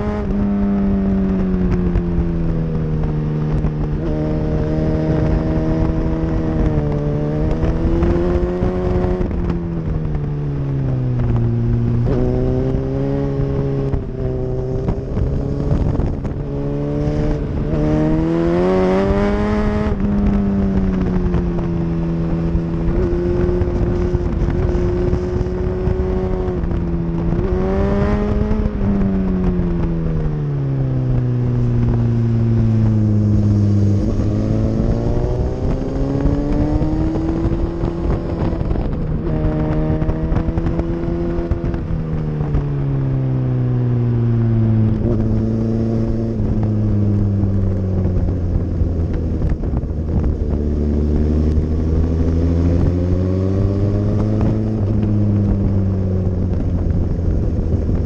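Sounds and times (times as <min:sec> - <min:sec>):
motorcycle engine at speed: 0:00.0 - 0:58.0
wind buffeting on microphone: 0:00.0 - 0:58.0.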